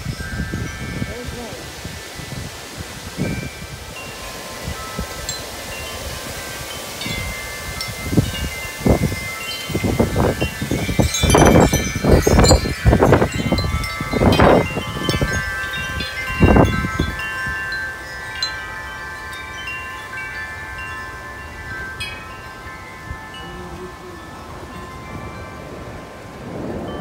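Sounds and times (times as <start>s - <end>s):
tubular wind chime ringing: 0.0s - 27.0s
wind buffeting microphone: 0.0s - 27.0s.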